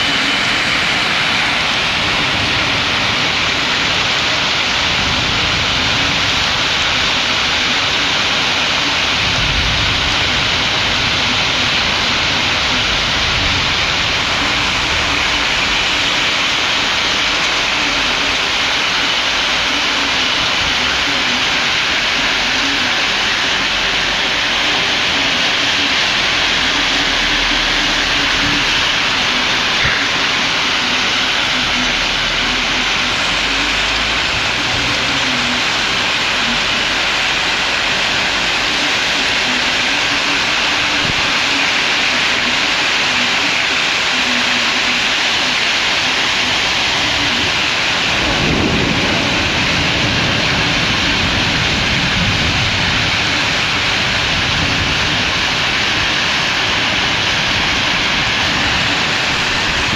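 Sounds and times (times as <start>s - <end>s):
wind gusts rumbling: 0.0s - 42.9s, 45.8s - 59.9s
heavy rain pouring: 0.0s - 59.9s.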